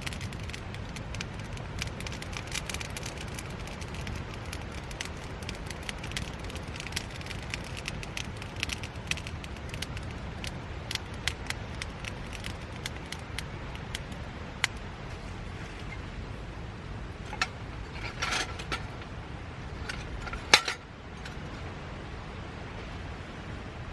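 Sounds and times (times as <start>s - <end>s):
wood fire crackling and popping: 0.0s - 16.1s, 17.2s - 19.1s, 19.8s - 21.4s
low fire rumble: 0.0s - 23.9s.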